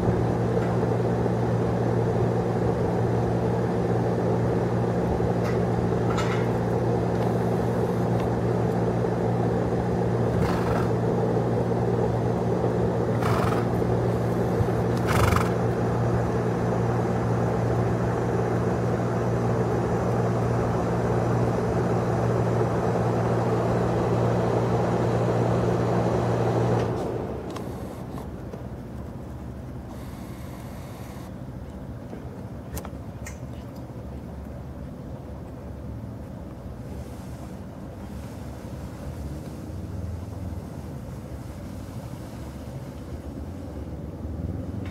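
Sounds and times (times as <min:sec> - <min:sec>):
low machine hum: 0:00.0 - 0:44.9.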